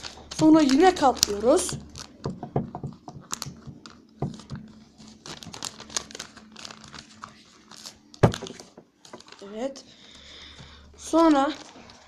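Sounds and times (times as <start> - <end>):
paper being folded and creased: 0.0 - 9.7, 11.0 - 12.0.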